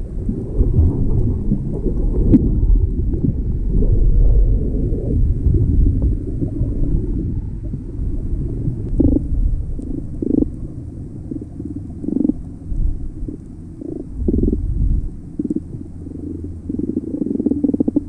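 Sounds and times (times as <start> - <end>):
underwater rumbling of moving water: 0.0 - 18.0
water gurgling bursts: 0.0 - 18.0.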